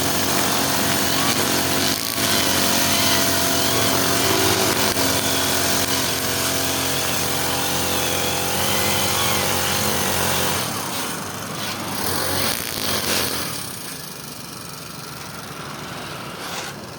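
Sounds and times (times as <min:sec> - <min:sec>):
brush cutter engine running: 0:00.0 - 0:15.8.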